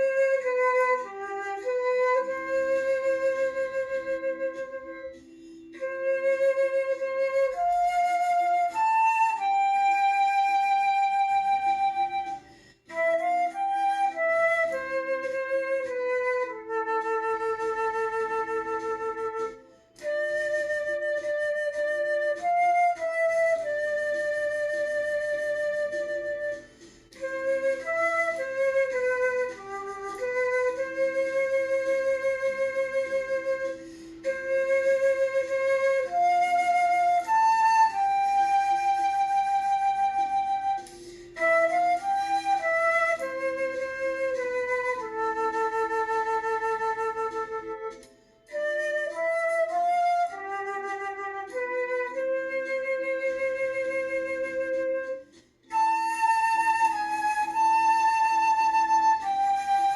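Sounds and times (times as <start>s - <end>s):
flute melody: 0.0s - 59.9s
lower accompaniment: 0.0s - 59.9s.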